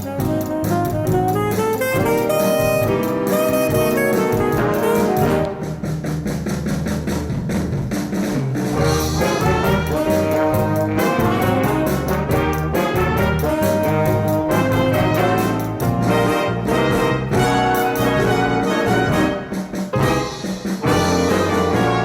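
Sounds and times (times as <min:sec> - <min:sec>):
trumpets and trombones: 0:00.0 - 0:06.2, 0:08.8 - 0:22.0
jazz band playing: 0:00.0 - 0:07.1, 0:08.3 - 0:22.0
steady bass line: 0:00.0 - 0:22.0.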